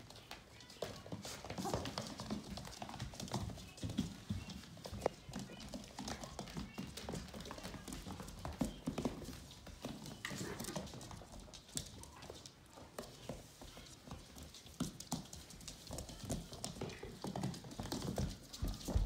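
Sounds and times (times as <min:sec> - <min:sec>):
puppy claws clicking on wood floor: 0:00.0 - 0:19.0.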